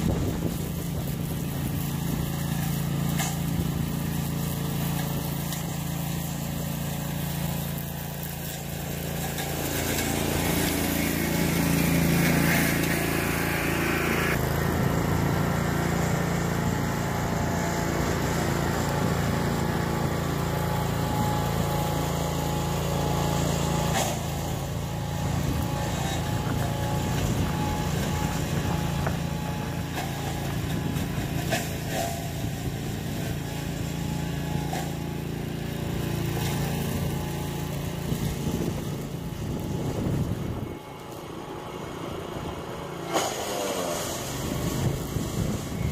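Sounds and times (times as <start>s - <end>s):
small mower engine running: 0.0s - 45.9s.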